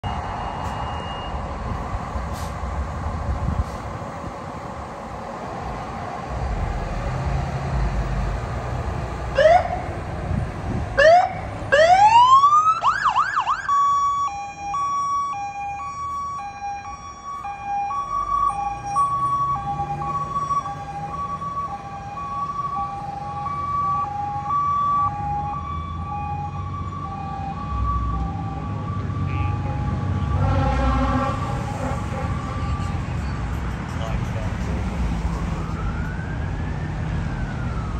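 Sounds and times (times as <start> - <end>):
fire engine siren: 0.0 - 8.3, 9.2 - 37.9
engine rumble: 0.0 - 37.9.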